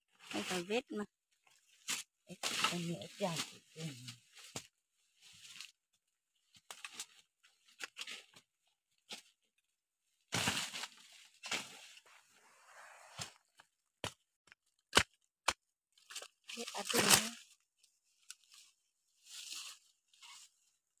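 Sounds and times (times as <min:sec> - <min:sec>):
digging in soil and leaf litter: 0:00.1 - 0:13.4, 0:16.0 - 0:21.0.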